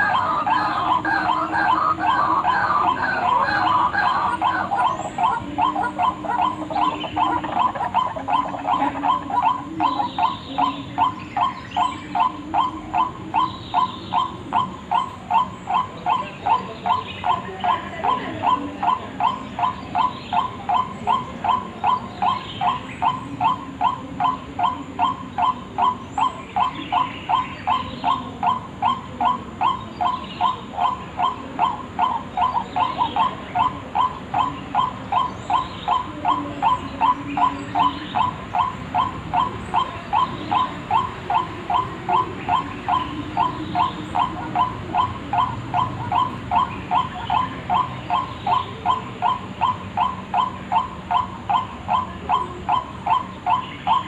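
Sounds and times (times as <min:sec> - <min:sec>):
waterhen calling: 0:00.0 - 0:54.0.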